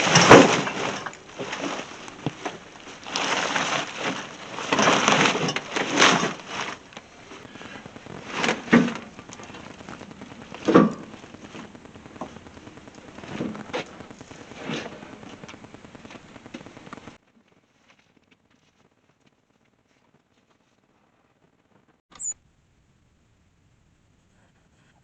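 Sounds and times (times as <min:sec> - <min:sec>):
rustling and crackling handling: 0:00.0 - 0:22.0.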